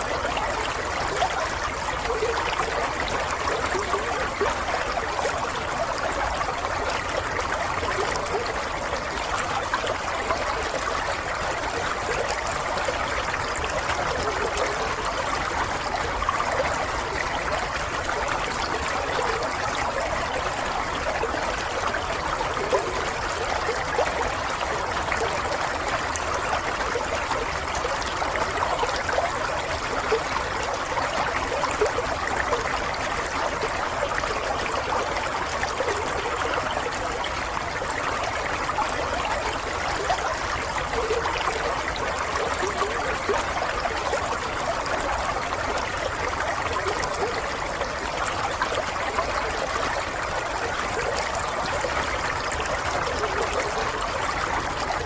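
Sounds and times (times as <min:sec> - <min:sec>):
water trickling over stones: 0:00.0 - 0:55.0.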